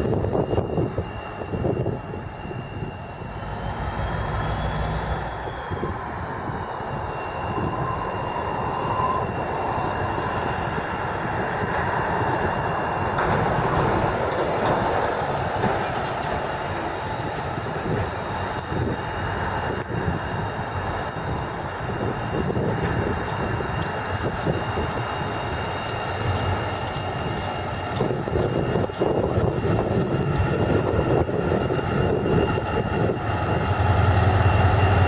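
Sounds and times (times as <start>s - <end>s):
diesel locomotive engine running: 0.0s - 35.0s
high-pitched wheel squeal: 0.0s - 35.0s.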